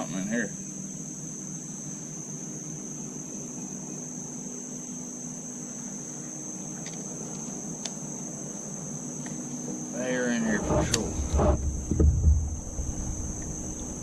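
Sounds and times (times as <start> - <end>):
insects shrilling: 0.0 - 14.0
low steady hum: 0.0 - 14.0.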